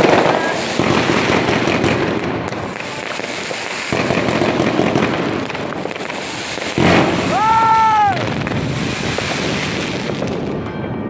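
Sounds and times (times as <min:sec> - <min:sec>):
fireworks crackling bangs: 0:00.0 - 0:11.0.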